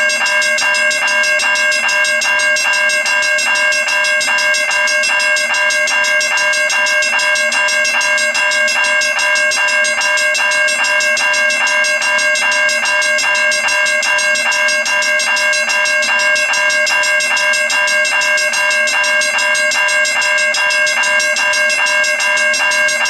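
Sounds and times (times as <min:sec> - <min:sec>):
continuous ringing tone: 0:00.0 - 0:23.0.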